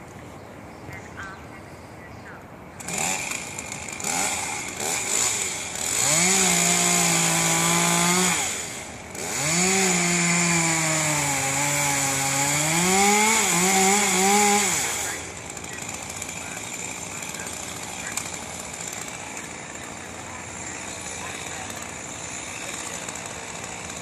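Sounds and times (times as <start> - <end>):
chainsaw revving and cutting wood: 2.8 - 24.0.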